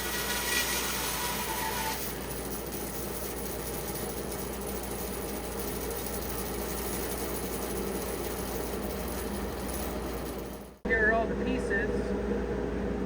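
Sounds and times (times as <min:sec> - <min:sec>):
band saw humming: 0:00.0 - 0:10.8.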